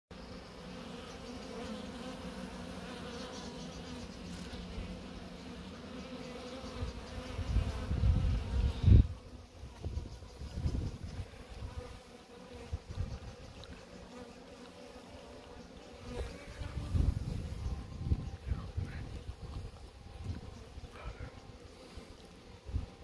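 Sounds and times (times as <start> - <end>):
bees buzzing: 0.1 - 23.0.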